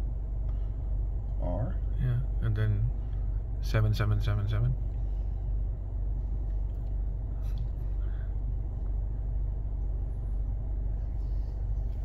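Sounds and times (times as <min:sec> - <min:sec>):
car engine idling from cabin: 0:00.0 - 0:12.0.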